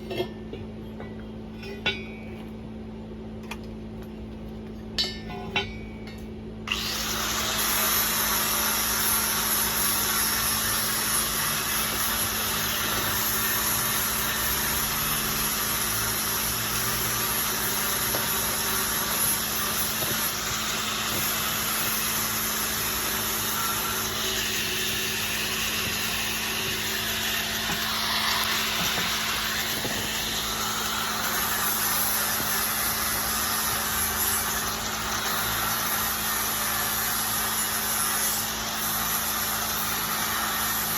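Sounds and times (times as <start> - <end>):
low electrical hum: 0.0 - 37.9
arc welding hiss: 6.7 - 40.9.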